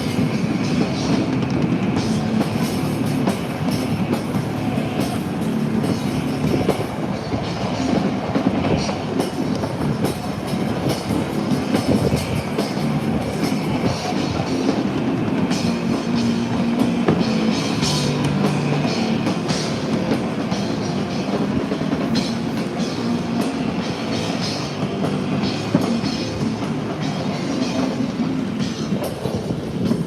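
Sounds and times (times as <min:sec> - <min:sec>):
rock music with drums: 0:00.0 - 0:30.0.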